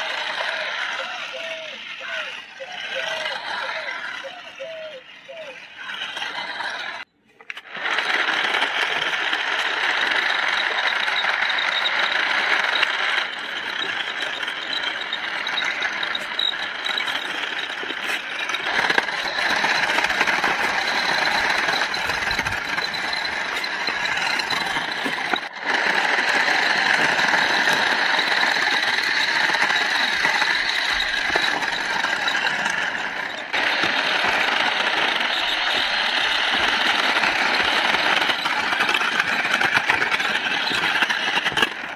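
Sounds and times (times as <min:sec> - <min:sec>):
toy car motor rattling whir: 0:00.0 - 0:41.9.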